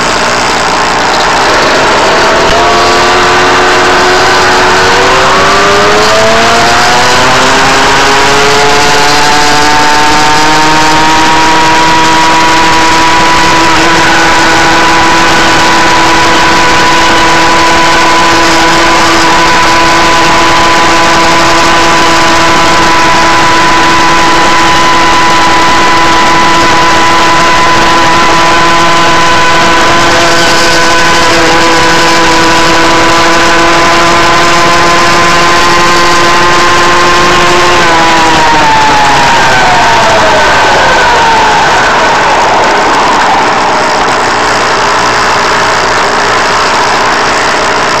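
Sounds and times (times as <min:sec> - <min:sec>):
rush of air and road noise: 0:00.0 - 0:48.0
small two-stroke engine: 0:00.0 - 0:48.0.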